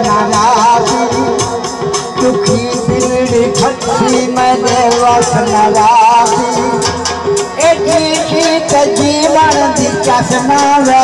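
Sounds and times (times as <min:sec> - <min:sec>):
folk music over loudspeakers: 0:00.0 - 0:11.0.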